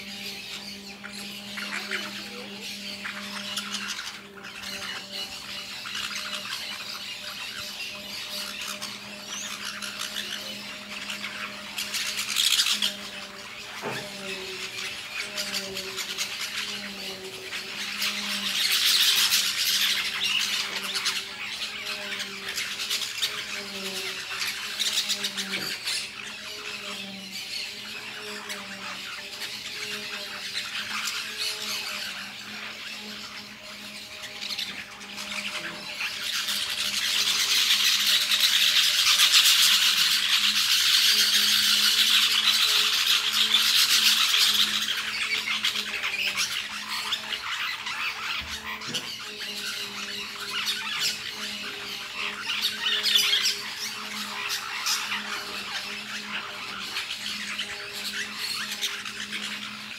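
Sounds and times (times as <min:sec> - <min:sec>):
parakeets chattering and screeching: 0:00.0 - 0:59.9.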